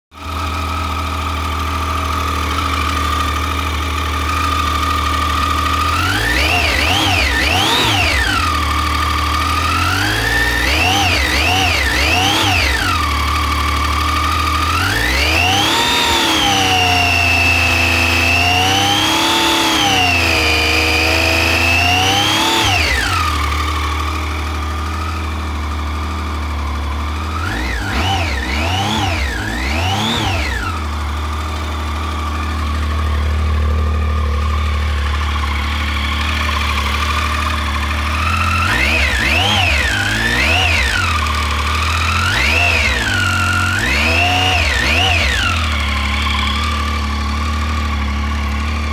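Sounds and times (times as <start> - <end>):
motorcycle engine idling and revving: 0.0 - 48.9.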